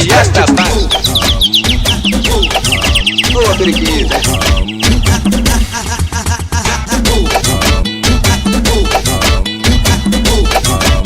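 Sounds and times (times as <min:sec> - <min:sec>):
funk music with heavy drum beat: 0:00.0 - 0:11.0.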